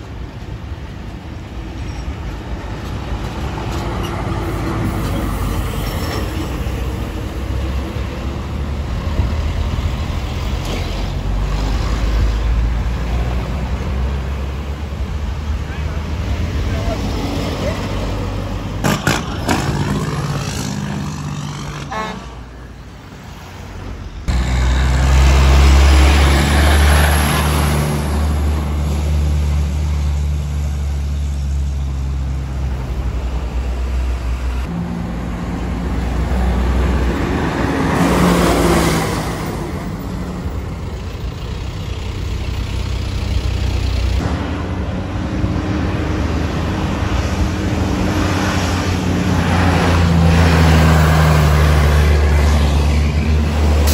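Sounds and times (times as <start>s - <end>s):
diesel truck engines running: 0.0s - 53.9s.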